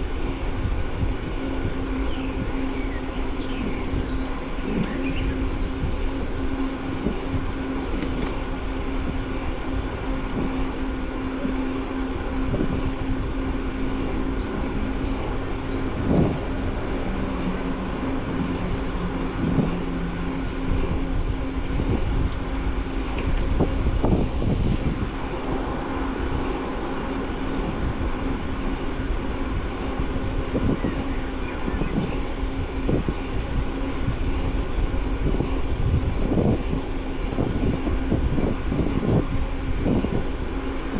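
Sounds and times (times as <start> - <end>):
bicycle rattling over bumps: 0.0 - 40.9
bicycle tyre and wind rumble: 0.0 - 40.9.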